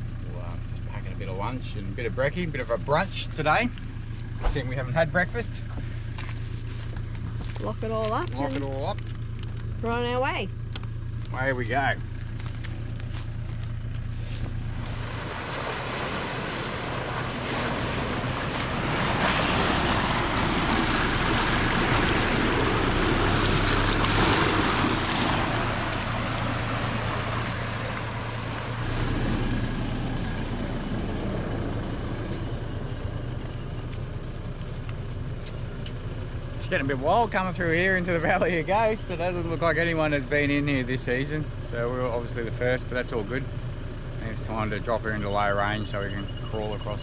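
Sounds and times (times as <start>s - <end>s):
tyres on dirt track: 0.0s - 47.0s
vehicle engine drone: 0.0s - 47.0s.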